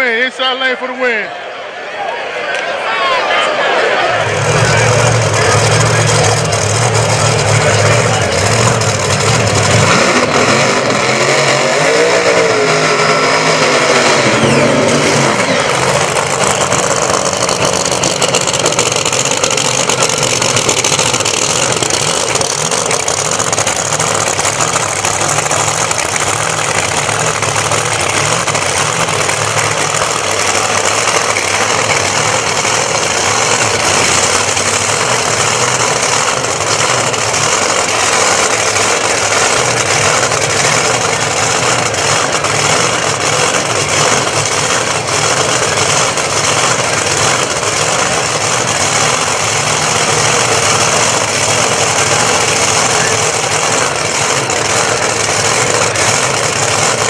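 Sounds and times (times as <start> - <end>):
race car engines idling and revving: 2.5 - 57.0.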